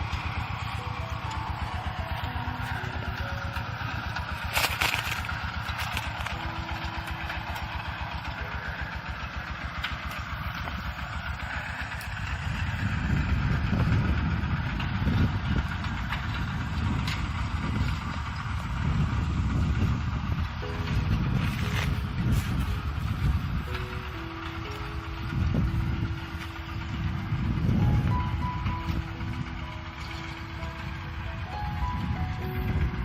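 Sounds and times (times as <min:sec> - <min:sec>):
engine knock: 0:00.0 - 0:33.0
tractor diesel engine chugging: 0:00.0 - 0:33.0.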